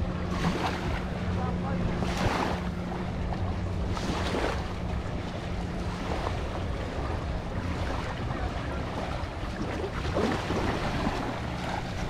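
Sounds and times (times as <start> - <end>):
small waves on sandy beach: 0.0 - 12.0
steady low hum: 0.0 - 12.0
wind on microphone: 0.0 - 12.0.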